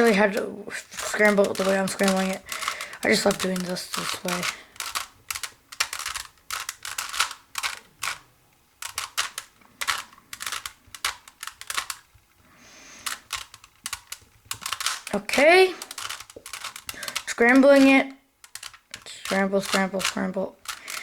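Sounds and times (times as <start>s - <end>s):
puzzle cube twisting clicks: 0.0s - 12.2s, 12.8s - 21.0s.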